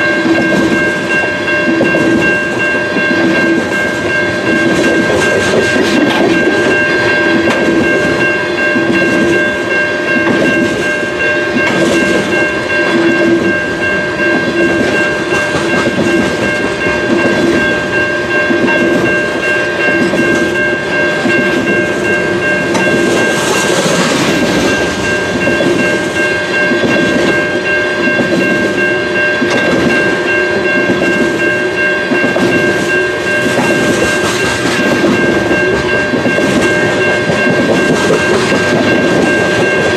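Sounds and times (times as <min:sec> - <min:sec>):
high ringing from wheels and rails: 0:00.0 - 0:39.9
train wheels clickety-clack: 0:00.0 - 0:39.9.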